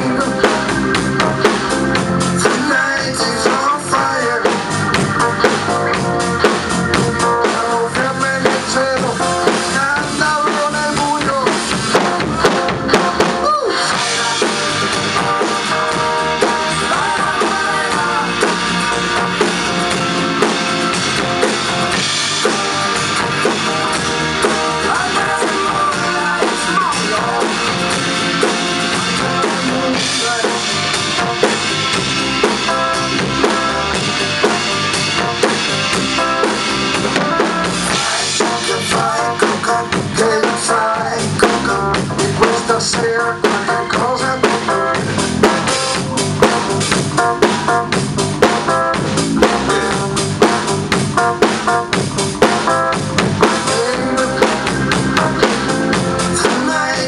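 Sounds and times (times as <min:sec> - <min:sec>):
drum kit playing: 0:00.0 - 0:57.0.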